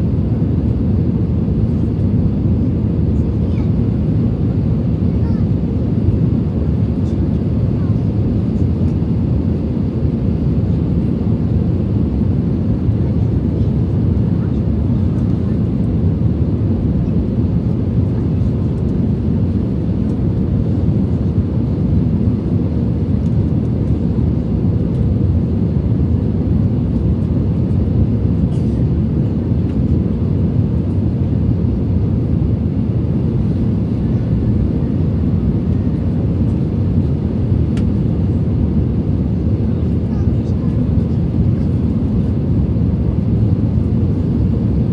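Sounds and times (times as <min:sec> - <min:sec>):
aircraft cabin engine rumble: 0:00.0 - 0:44.9.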